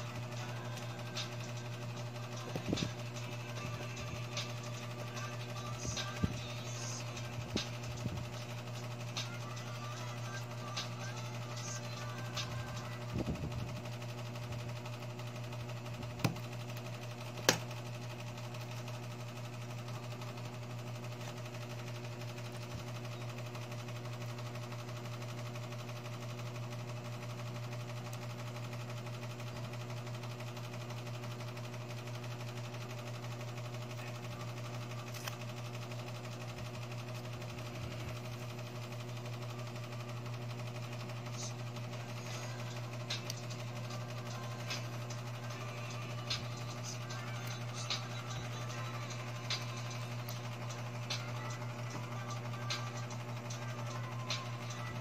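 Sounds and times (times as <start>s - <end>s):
low mechanical hum: 0.0s - 55.0s.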